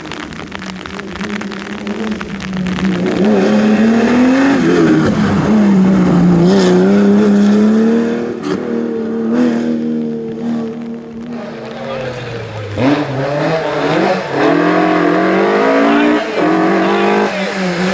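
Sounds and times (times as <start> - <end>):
rally car engine accelerating: 0.1 - 17.9.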